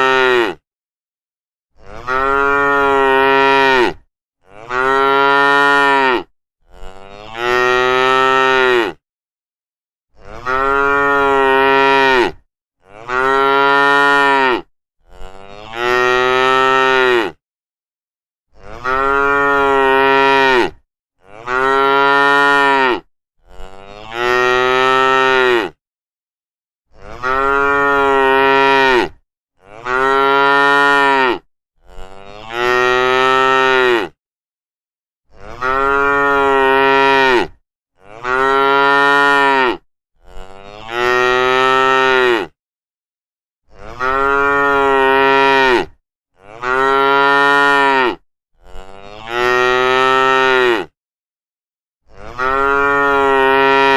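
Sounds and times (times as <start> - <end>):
cows mooing: 1.8 - 9.0, 10.2 - 17.4, 18.7 - 25.8, 27.0 - 34.2, 35.4 - 42.6, 43.8 - 50.9, 52.2 - 53.9.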